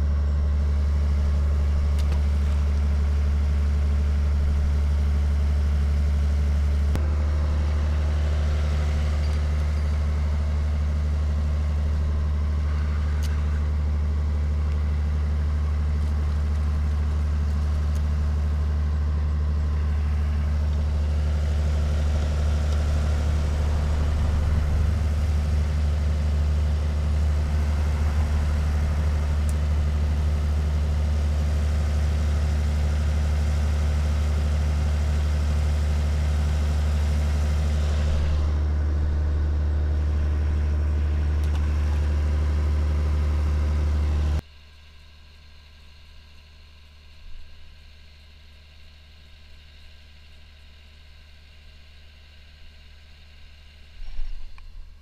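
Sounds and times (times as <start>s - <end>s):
deep engine drone: 0.0s - 55.0s.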